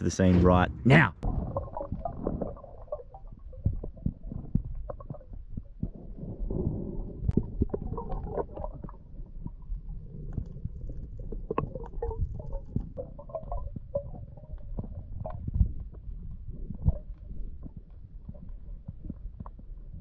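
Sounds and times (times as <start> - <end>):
muffled underwater rumble: 0.0 - 20.0.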